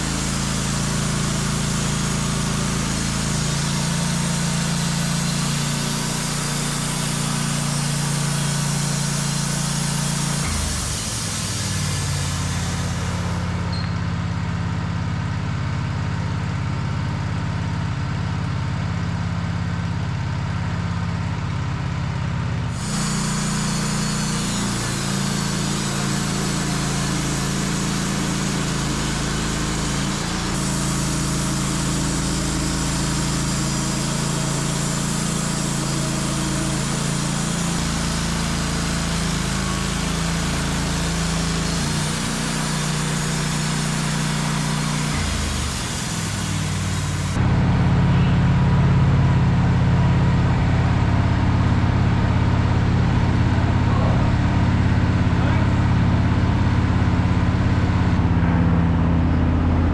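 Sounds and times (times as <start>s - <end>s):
sawmill engine running: 0.0s - 17.9s, 22.6s - 59.9s.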